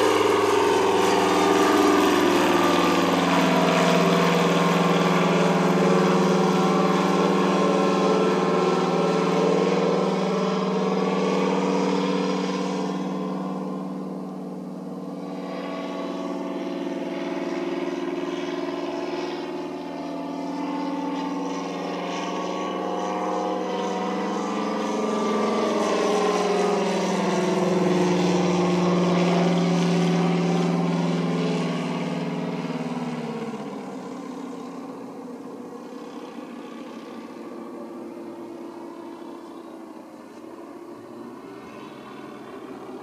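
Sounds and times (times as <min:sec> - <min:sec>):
biplane engine and propeller droning: 0:00.0 - 0:43.0.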